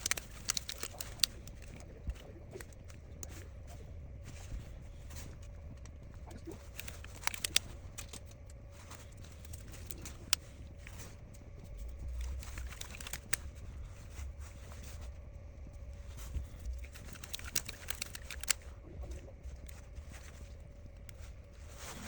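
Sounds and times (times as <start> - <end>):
faint steady hum: 0.0 - 22.0
small clicks and rustles: 0.0 - 22.0.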